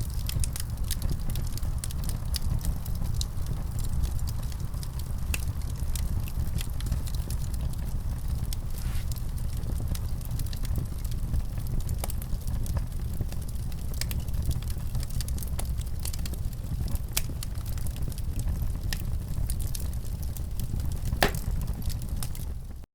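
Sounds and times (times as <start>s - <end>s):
fire crackling and popping: 0.0s - 22.8s
low fire rumble: 0.0s - 22.8s.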